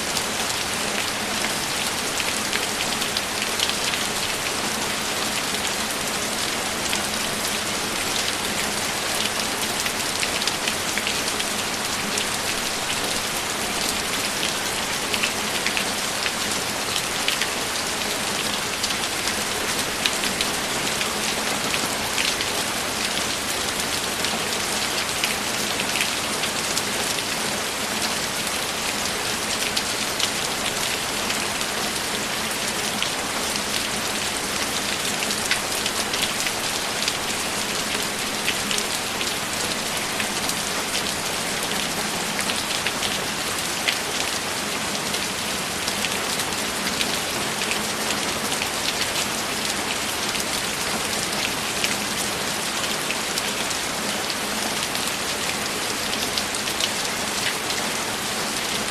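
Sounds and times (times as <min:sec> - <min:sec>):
steady rain with pattering drops: 0:00.0 - 0:58.9.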